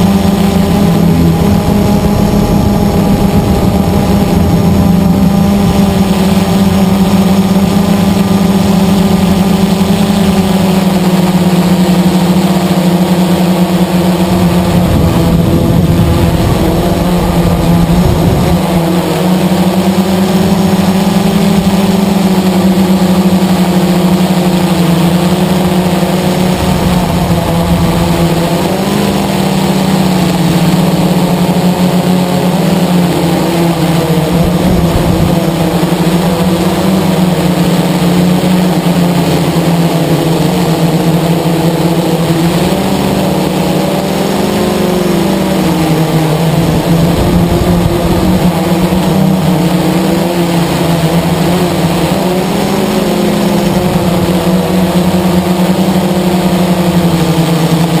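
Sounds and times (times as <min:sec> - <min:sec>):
quadcopter motors droning: 0:00.0 - 0:58.0.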